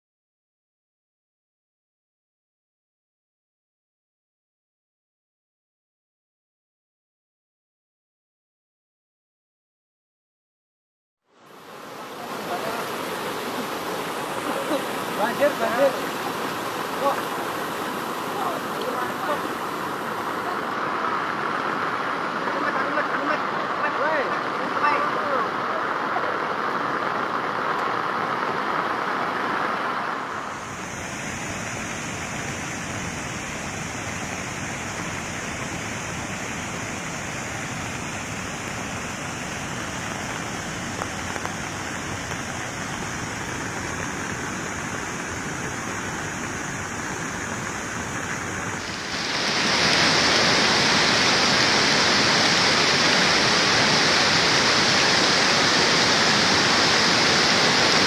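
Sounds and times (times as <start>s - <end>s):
rushing water from rain and flooding: 11.2s - 58.0s.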